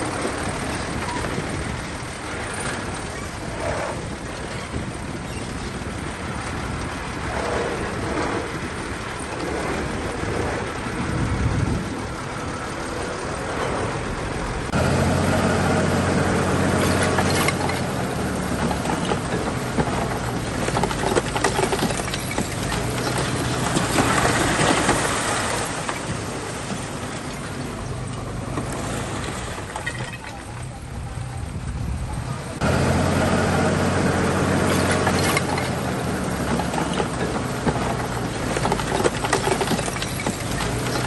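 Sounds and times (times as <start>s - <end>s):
tracks and stone clanking: 0.0s - 30.9s, 33.7s - 41.0s
bulldozer diesel engine: 0.0s - 41.0s.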